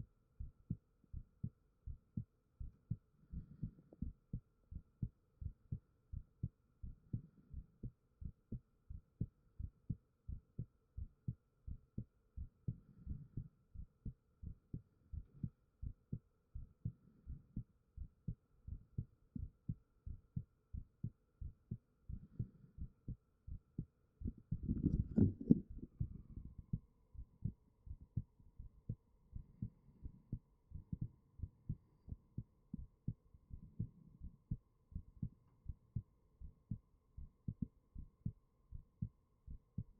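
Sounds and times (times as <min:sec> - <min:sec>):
heartbeat thumps: 0:00.4 - 0:39.9.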